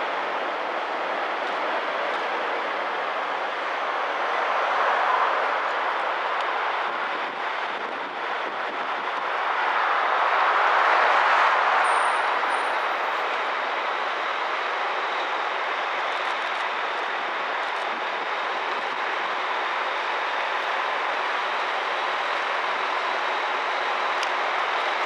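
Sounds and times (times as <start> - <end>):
road traffic hiss: 0.0 - 25.0.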